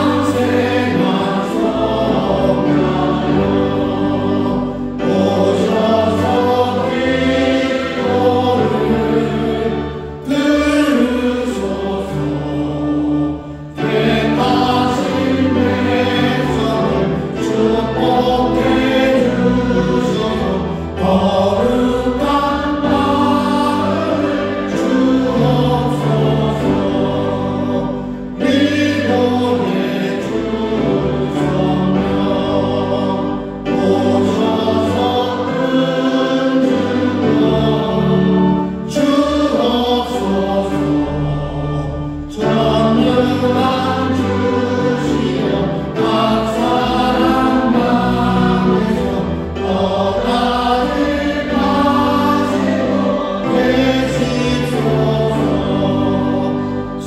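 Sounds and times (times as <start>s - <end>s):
group singing worship song: 0.0s - 57.0s
keyboard: 0.0s - 57.0s.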